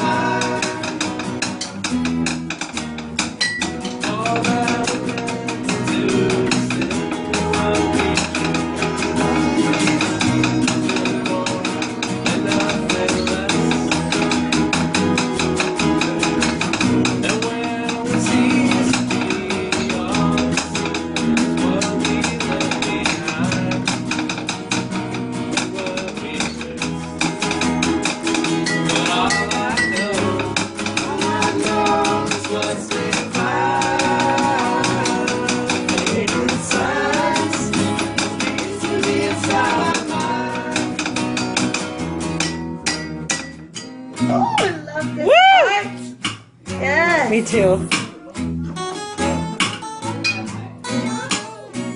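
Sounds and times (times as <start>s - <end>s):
acoustic guitars strummed: 0.0s - 51.9s
acoustic rock band playing: 0.0s - 51.9s.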